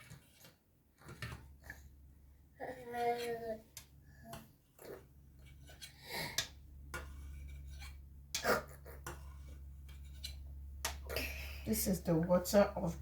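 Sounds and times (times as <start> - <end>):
low steady hum: 1.4 - 13.0.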